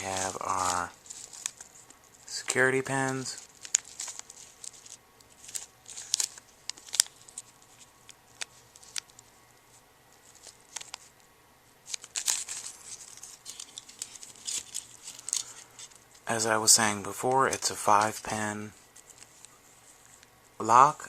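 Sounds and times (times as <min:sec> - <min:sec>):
packaging crinkling: 0:00.0 - 0:09.4, 0:10.1 - 0:11.2, 0:11.8 - 0:16.2, 0:17.9 - 0:20.3.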